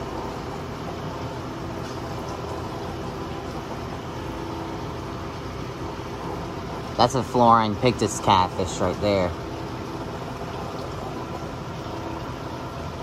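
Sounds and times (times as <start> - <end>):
aquarium water rushing: 0.0 - 13.0.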